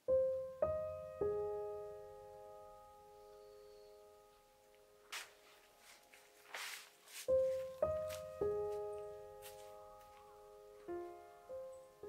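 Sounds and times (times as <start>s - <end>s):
slow soft instrumental notes: 0.0s - 12.0s.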